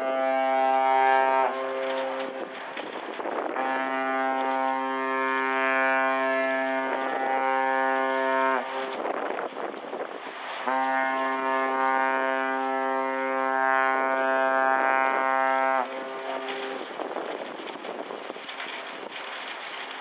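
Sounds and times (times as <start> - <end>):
ship's horn blasts: 0.0 - 9.7, 10.6 - 19.1.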